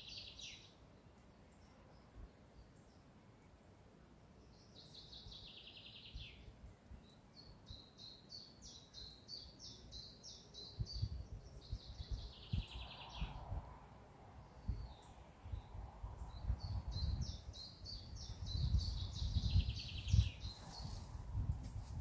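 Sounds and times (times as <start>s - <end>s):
songbirds singing: 0.0s - 21.5s.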